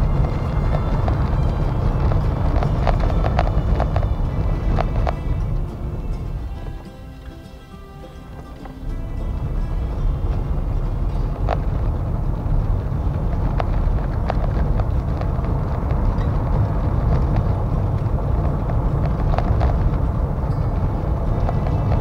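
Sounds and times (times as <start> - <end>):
tyres rumbling over cobblestones: 0.0 - 22.0.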